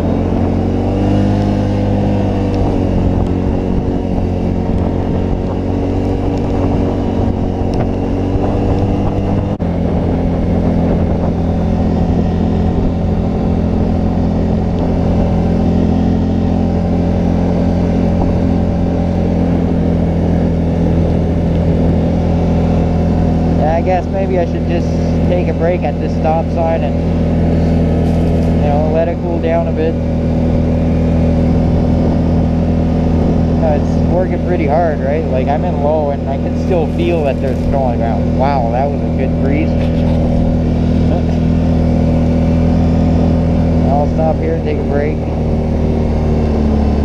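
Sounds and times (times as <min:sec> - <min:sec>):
atv engine running under load: 0:00.0 - 0:47.0.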